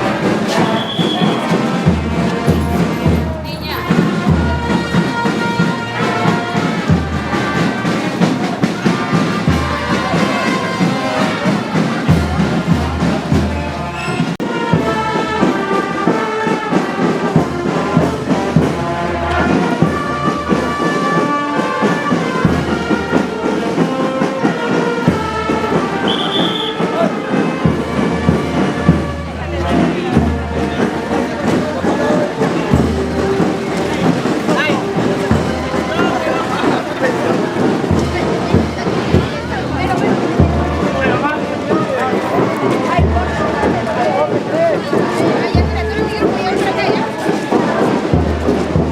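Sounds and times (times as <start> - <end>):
brass band music: 0.0 - 48.9.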